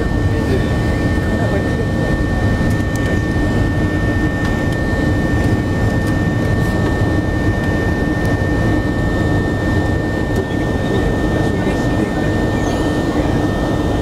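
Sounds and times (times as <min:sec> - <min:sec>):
airplane cabin rumble: 0:00.0 - 0:14.0
high engine whine: 0:00.0 - 0:14.0.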